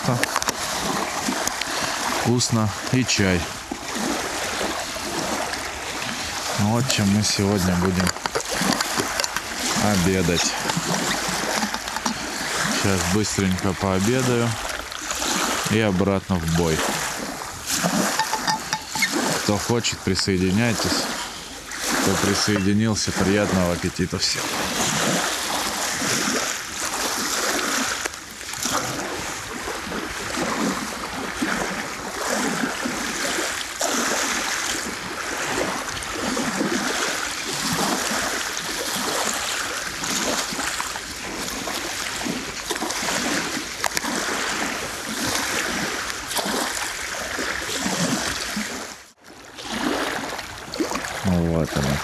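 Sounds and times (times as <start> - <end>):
waves lapping against shore: 0.0 - 52.0.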